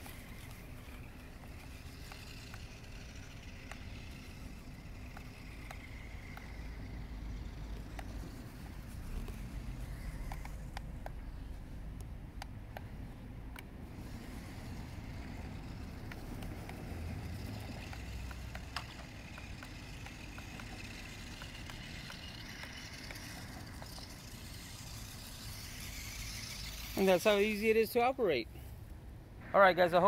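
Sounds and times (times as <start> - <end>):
small clicks: 0.0 - 11.2, 13.5 - 27.1
toy car motors whining: 0.0 - 11.8, 13.8 - 28.2
low outdoor rumble: 0.0 - 30.0.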